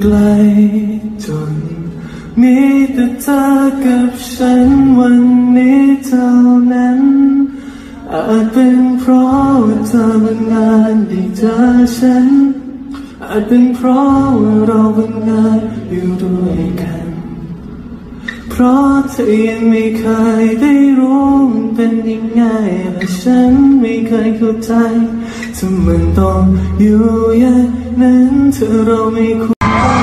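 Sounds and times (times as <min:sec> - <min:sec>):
acoustic guitar: 0:00.0 - 0:30.0
man singing slow song: 0:00.0 - 0:30.0.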